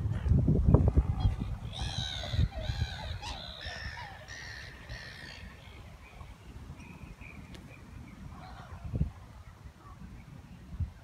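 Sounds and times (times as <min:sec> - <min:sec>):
wind rumbling on microphone: 0:00.0 - 0:11.0
birds calling: 0:01.0 - 0:10.7.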